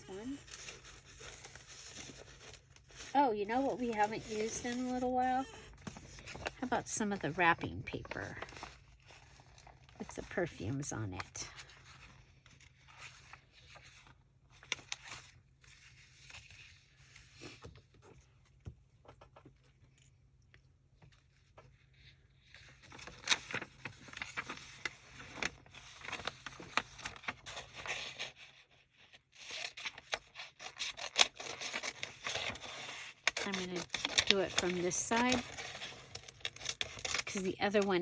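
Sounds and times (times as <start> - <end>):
paper rustling and scraping: 0.0 - 20.0, 21.0 - 38.0.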